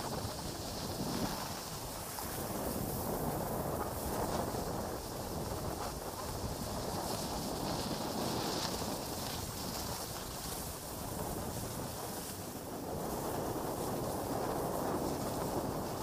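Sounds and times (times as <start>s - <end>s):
skis sliding over snow: 0.0s - 16.0s
wind buffeting microphone: 0.0s - 16.0s.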